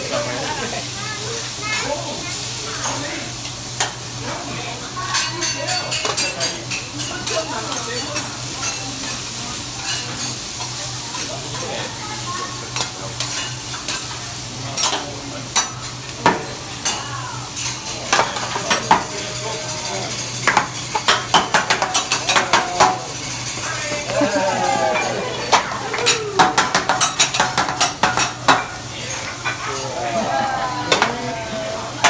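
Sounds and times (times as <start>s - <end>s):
food sizzling on a griddle: 0.0s - 32.0s.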